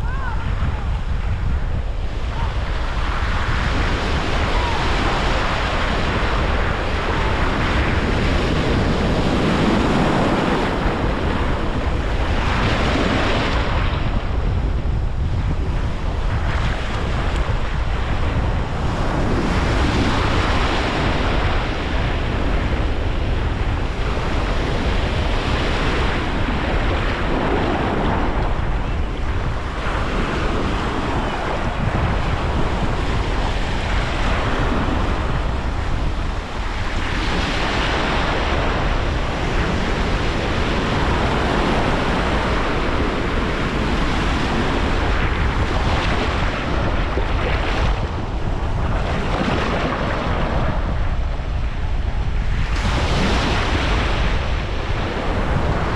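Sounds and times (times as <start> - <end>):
surf breaking on beach: 0.0 - 55.9
wind rumbling on microphone: 0.0 - 55.9.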